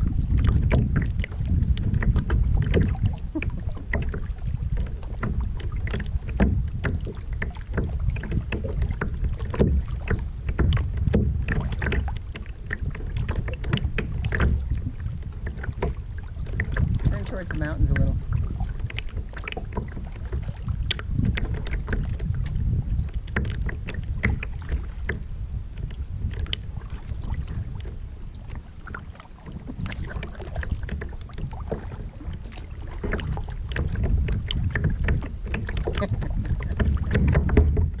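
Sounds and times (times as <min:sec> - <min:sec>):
water lapping against kayak hull: 0:00.0 - 0:38.0
wind rumble on microphone: 0:00.0 - 0:38.0.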